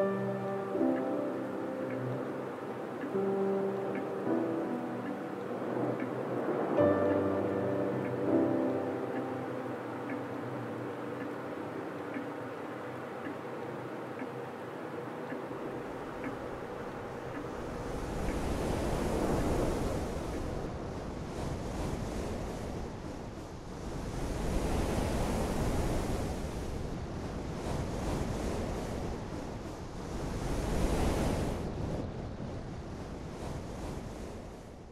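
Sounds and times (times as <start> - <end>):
surf rushing: 0.0 - 34.9.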